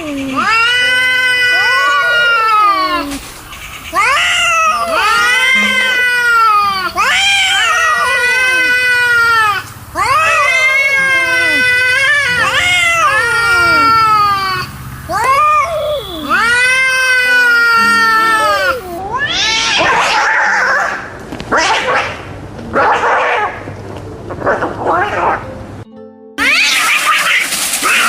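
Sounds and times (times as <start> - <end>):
cats hissing: 0.0 - 22.2, 26.4 - 28.0
cats yowling: 0.0 - 22.2, 22.8 - 23.6, 26.4 - 28.0.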